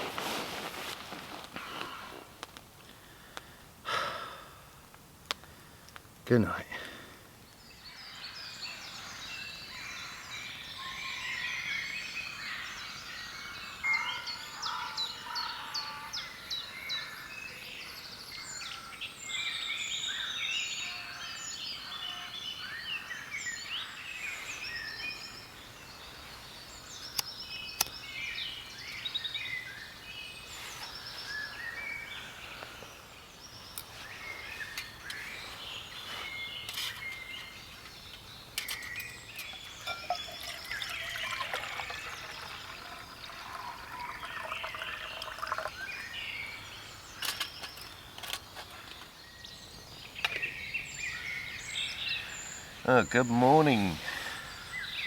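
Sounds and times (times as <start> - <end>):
birds singing and calling: 6.3 - 55.0.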